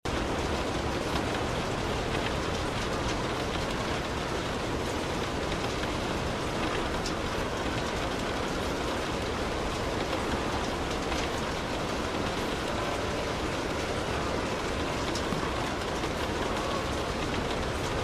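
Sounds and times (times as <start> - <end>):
light rain on a car: 0.1 - 18.0
rain drops ticking: 0.1 - 18.0.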